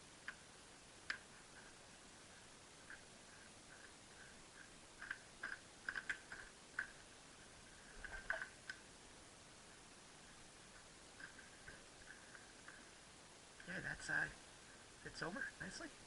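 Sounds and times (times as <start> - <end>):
faint regular ticking: 0.1 - 9.0, 9.9 - 15.9.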